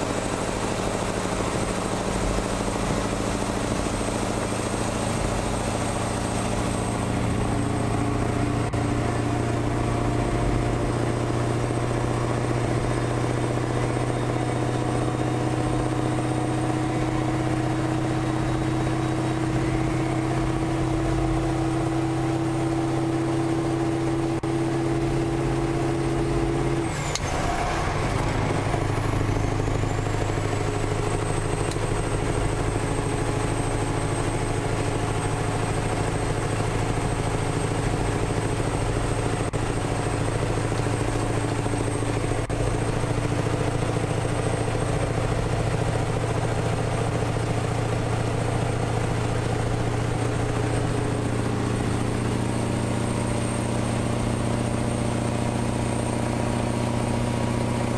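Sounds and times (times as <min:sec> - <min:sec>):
diesel lorry engine running: 0:00.0 - 0:57.9
road and wind rumble: 0:00.0 - 0:57.9.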